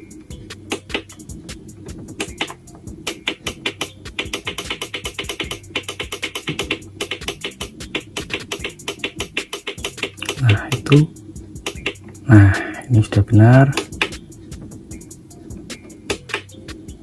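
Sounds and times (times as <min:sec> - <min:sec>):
music with fast ticking beat: 0:00.0 - 0:17.0.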